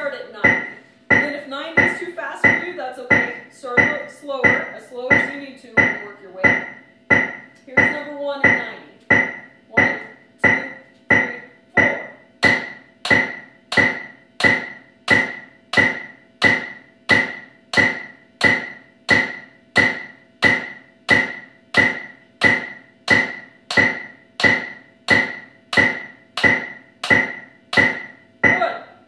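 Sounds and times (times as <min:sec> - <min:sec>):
drumsticks on practice pad: 0:00.0 - 0:29.0
metronome clicking: 0:00.4 - 0:28.7.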